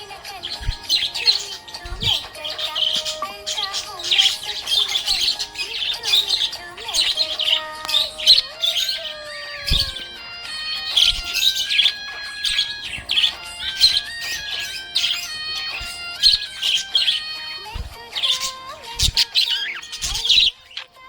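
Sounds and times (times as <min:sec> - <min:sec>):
background music: 0:00.0 - 0:21.0
budgerigar chirping and warbling: 0:00.0 - 0:21.0.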